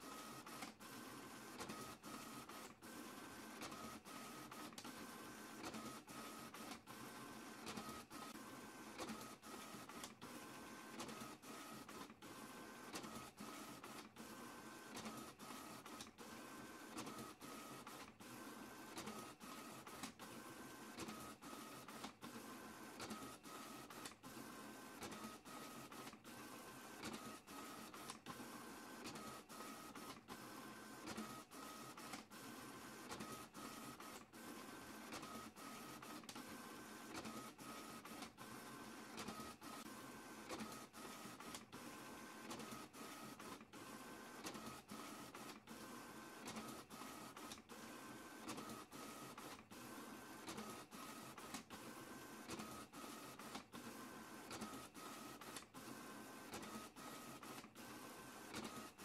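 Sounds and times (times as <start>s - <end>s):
printer whirring: 0.0s - 59.0s.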